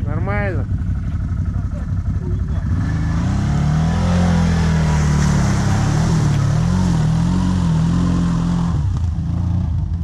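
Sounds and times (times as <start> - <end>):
off-road vehicle engine revving: 1.7 - 10.0.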